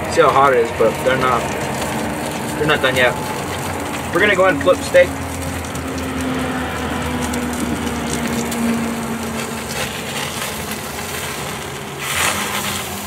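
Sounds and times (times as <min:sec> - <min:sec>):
fat sizzling and crackling: 0:00.0 - 0:13.0.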